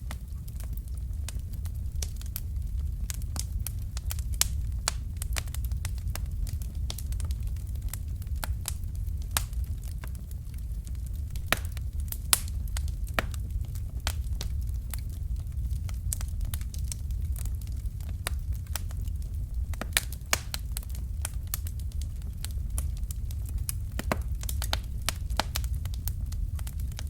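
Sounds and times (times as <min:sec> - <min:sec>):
low rumble of flames: 0:00.0 - 0:27.0
wood fire crackling and snapping: 0:00.0 - 0:27.0.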